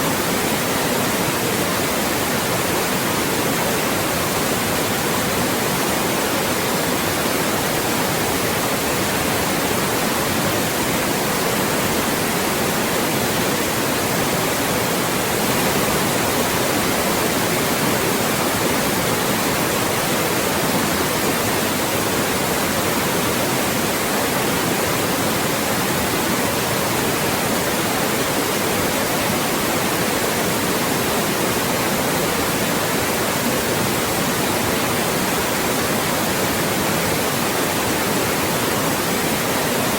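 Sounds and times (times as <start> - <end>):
loud white noise hiss: 0.0 - 39.9.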